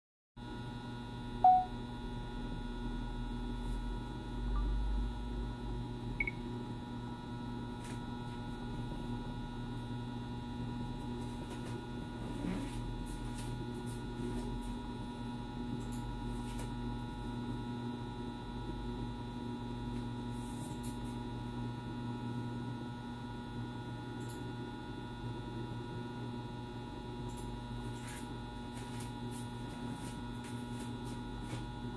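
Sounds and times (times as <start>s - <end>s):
electrical hum: 0.4s - 31.9s.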